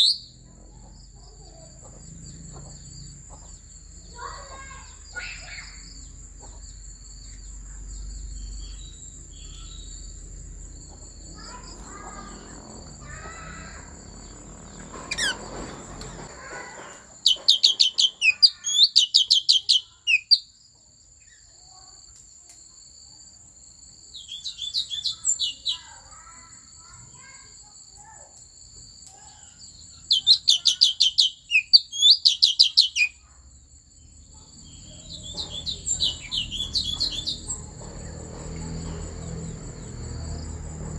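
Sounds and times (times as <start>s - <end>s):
songbird chirping trills: 0.0s - 22.2s, 23.8s - 40.9s.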